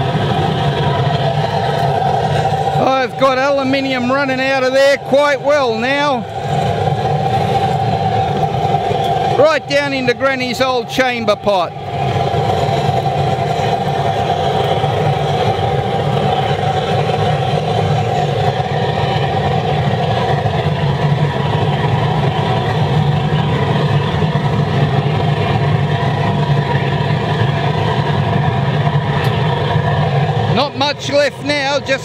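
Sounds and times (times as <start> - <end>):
low hum: 0.0 - 32.0
oil burner flame rushing: 0.0 - 32.0.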